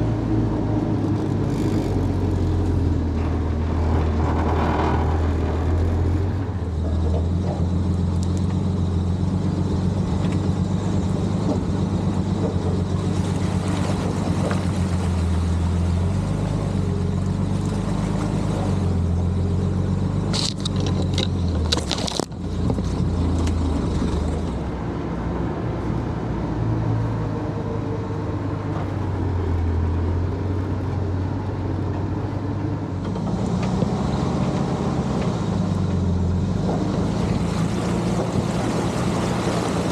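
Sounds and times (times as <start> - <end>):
truck engine running at low revs: 0.0 - 39.9.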